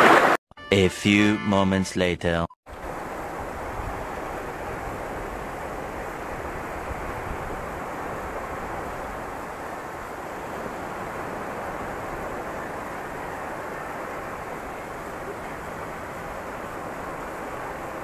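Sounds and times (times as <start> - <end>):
sea surf: 0.0 - 0.4, 2.7 - 18.0
wind buffeting microphone: 2.8 - 18.0.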